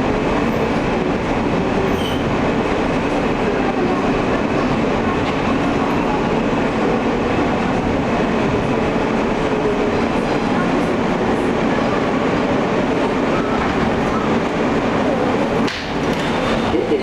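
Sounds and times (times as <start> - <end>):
subway wheels rumbling on rails: 0.0 - 17.0.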